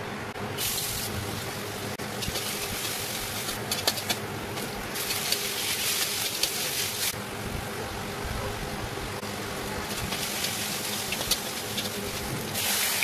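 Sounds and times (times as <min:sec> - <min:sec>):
onions sizzling in hot oil: 0:00.5 - 0:07.2, 0:09.2 - 0:13.0.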